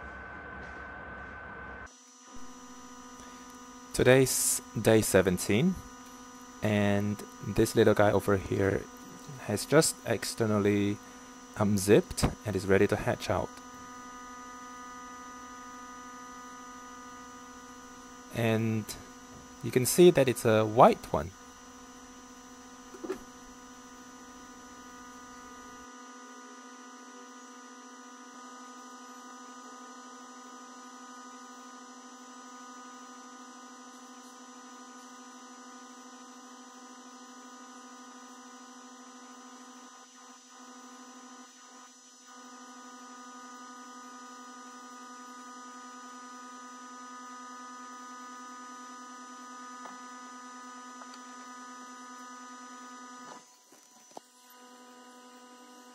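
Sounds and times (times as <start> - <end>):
incubator fan hum: 0.0 - 53.4.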